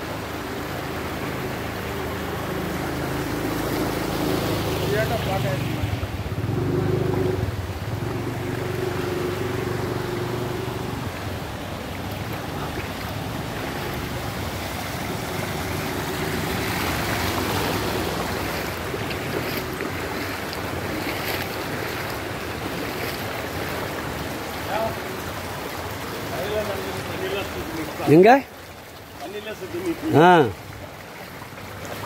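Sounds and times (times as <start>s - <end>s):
engine hum: 0.0s - 28.0s
floodwater rushing and splashing: 0.0s - 32.0s.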